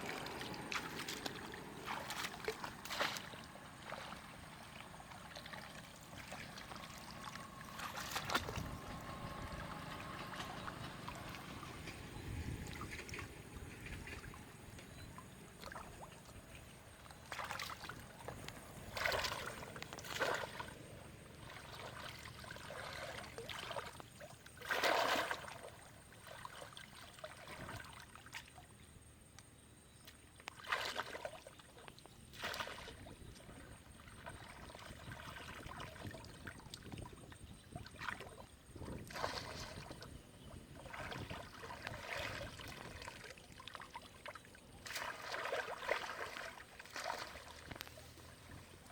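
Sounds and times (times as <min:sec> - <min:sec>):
water splashing and sloshing: 0:00.0 - 0:48.9.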